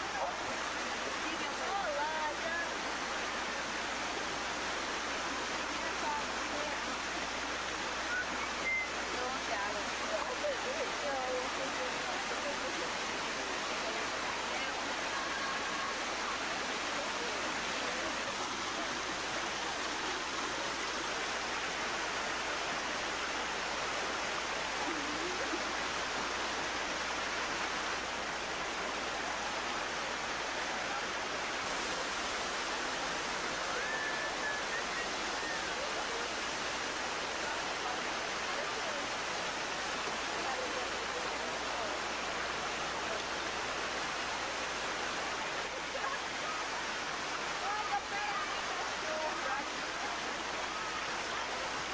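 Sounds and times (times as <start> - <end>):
river running over rocks: 0.0 - 51.9.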